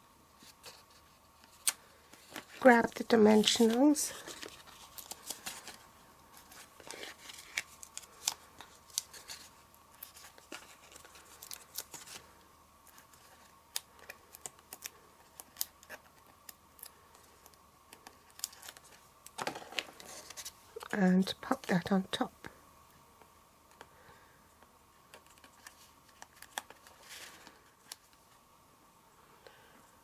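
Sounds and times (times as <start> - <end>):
paper clicks and rustles: 0.4 - 21.8, 25.1 - 28.2.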